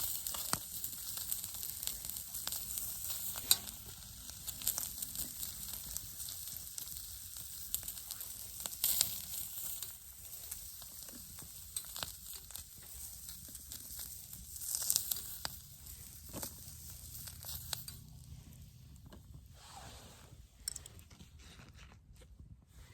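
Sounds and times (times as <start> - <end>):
food sizzling on a griddle: 0.0 - 18.7.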